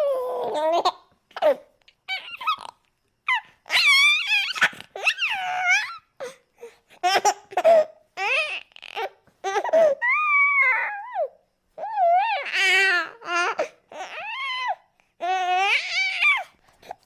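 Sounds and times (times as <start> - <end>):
baby squealing and giggling: 0.0 - 6.1, 7.0 - 17.0.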